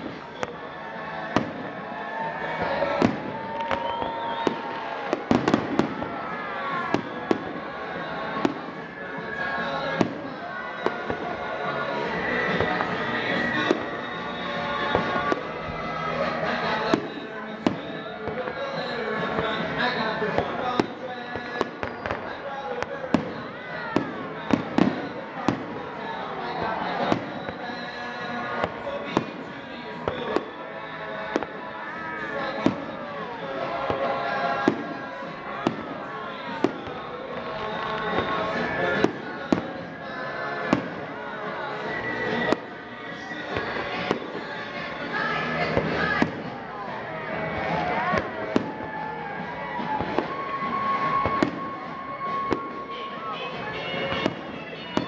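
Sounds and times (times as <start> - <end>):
firework whistling: 0.0 - 18.4, 20.3 - 22.5, 23.1 - 27.6, 33.9 - 46.6, 47.3 - 55.0
firework bangs: 0.0 - 18.6, 19.2 - 46.7, 47.3 - 55.0
music playing: 0.0 - 55.0.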